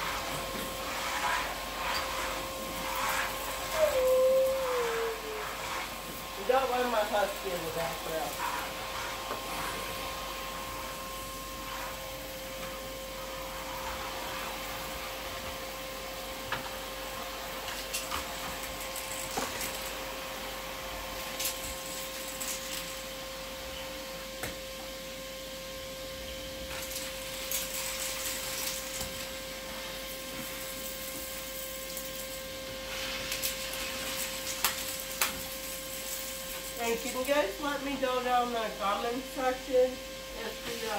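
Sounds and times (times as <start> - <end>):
shop vacuum motor whine: 0.0 - 40.9.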